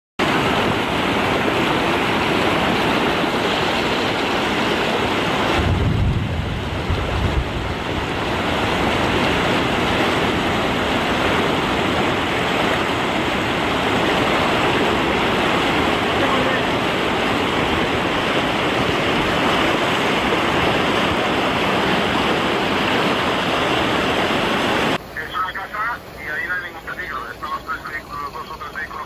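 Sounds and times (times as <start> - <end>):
wind buffeting microphone: 0.2 - 25.0
floodwater rushing: 0.2 - 29.0.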